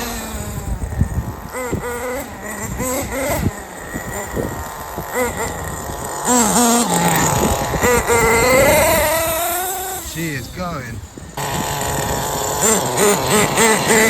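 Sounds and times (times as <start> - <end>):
small nitro engine revving: 0.0 - 14.0.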